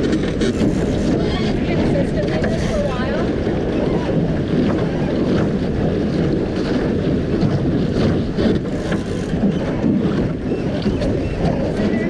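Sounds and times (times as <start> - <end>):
water splashes: 0.0 - 12.0
water washing along hull: 0.0 - 12.0
wind buffeting microphone: 0.0 - 12.0.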